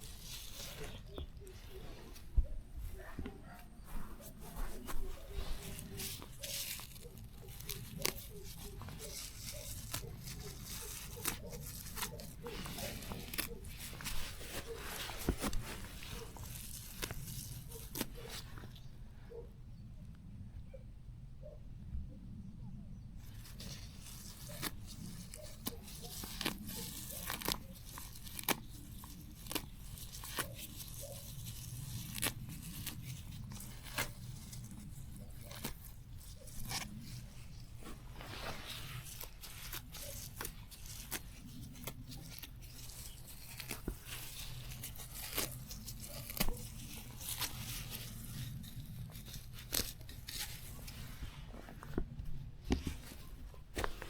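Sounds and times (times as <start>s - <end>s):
plants tearing and rustling: 0.0s - 19.0s, 23.2s - 54.0s.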